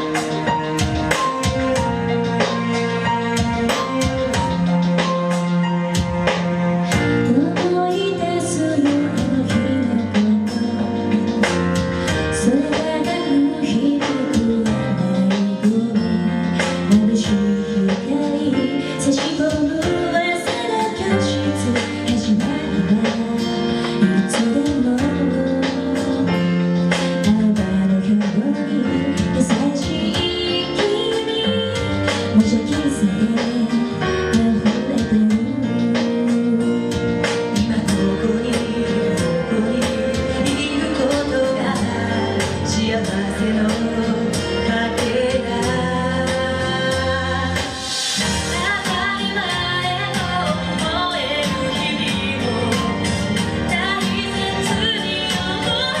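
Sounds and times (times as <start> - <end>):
drum kit beat: 0.0 - 56.0
live band music with guitar: 0.0 - 56.0.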